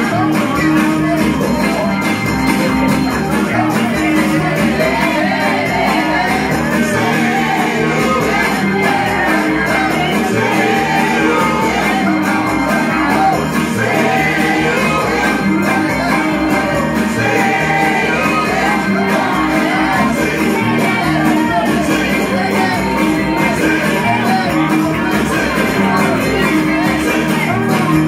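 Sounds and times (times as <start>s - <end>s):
group singing into microphones: 0.0s - 28.0s
loud music: 0.0s - 28.0s
people shouting: 0.0s - 28.0s.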